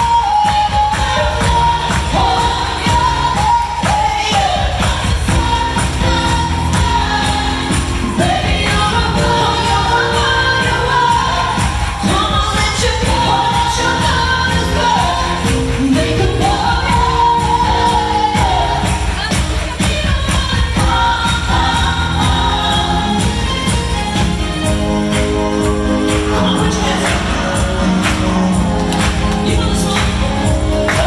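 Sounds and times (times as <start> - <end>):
backing choir: 0.0 - 31.0
drums: 0.0 - 31.0
piano: 0.0 - 31.0
women singing: 0.0 - 31.0.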